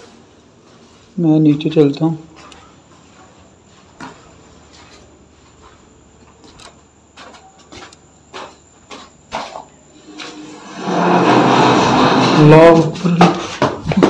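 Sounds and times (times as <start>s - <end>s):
footsteps on concrete stairs: 0.0s - 10.4s, 12.7s - 14.0s.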